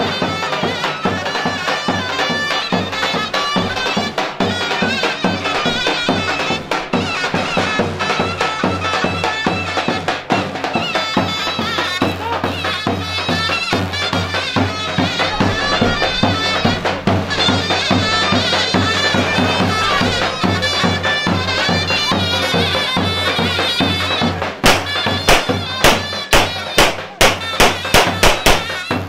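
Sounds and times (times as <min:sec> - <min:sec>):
loud sharp drum strokes: 0:00.0 - 0:29.0
shrill reed instrument melody: 0:00.0 - 0:29.0
steady drum beat: 0:00.0 - 0:29.0.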